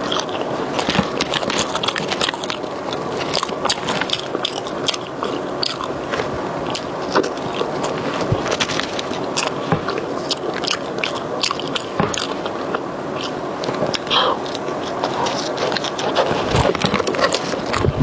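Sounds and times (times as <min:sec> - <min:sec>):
chewing fries: 0:00.0 - 0:18.0.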